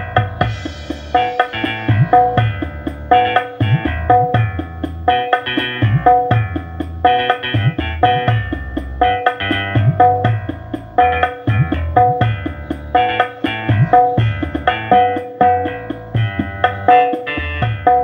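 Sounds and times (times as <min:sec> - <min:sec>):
percussion-heavy music through woofer: 0:00.0 - 0:18.0.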